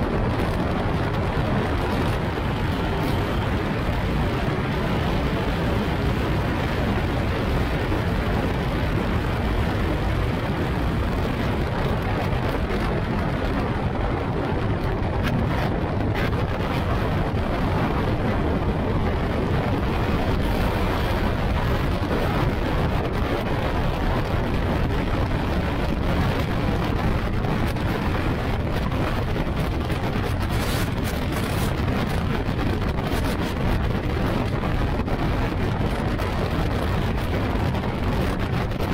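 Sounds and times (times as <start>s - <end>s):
wind and road rush: 0.0s - 38.9s.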